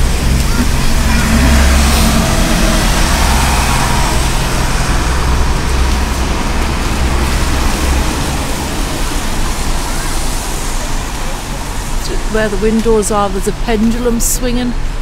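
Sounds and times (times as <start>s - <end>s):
road traffic hiss and engine rumble: 0.0s - 15.0s.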